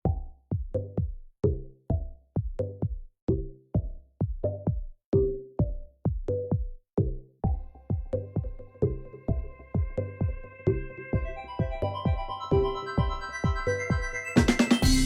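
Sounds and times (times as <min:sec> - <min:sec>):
electronic drum-machine beat: 0:00.0 - 0:15.0.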